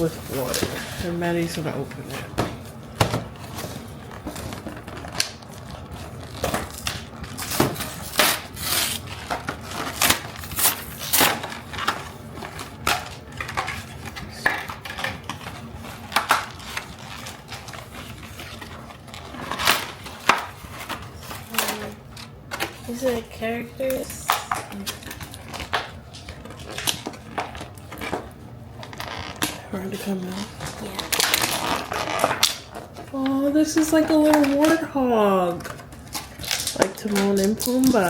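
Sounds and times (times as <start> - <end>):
plastic wrap crinkling: 0.0 - 38.0.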